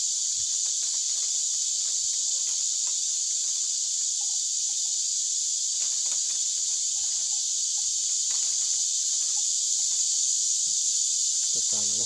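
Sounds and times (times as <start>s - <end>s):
bamboo strips clicking and rustling: 0.0s - 12.0s
high-pitched insect chirring: 0.0s - 12.0s.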